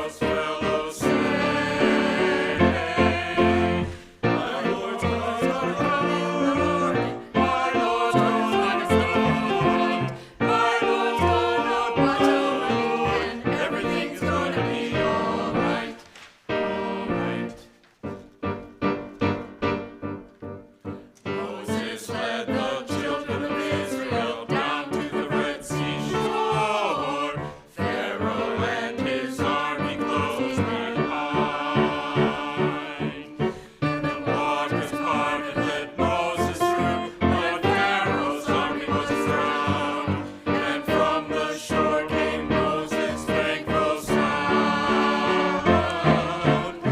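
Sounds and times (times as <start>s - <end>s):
church choir singing: 0.0s - 46.9s
instrumental accompaniment notes: 0.0s - 46.9s.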